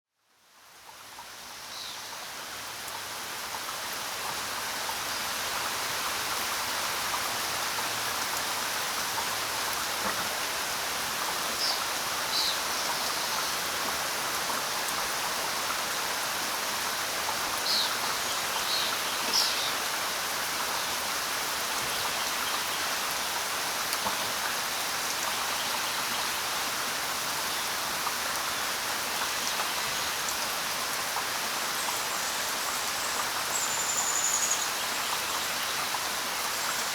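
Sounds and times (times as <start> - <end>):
steady rainfall: 0.2 - 36.9.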